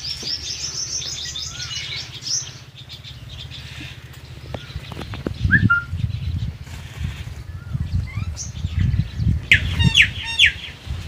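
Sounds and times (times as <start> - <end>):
small birds twittering: 0.0 - 11.0.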